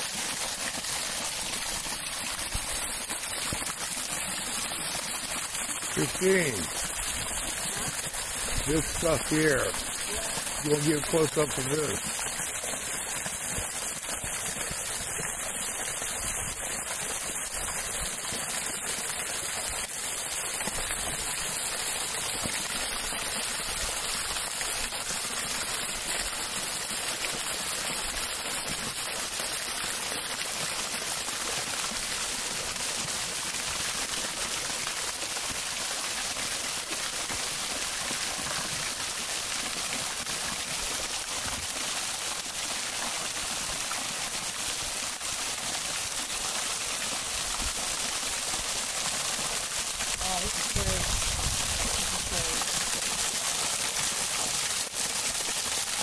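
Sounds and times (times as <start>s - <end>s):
water trickling down rock: 0.0s - 56.0s.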